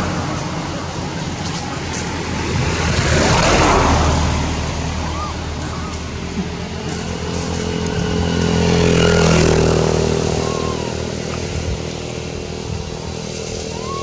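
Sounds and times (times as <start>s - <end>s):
motor engine running: 0.0s - 14.0s.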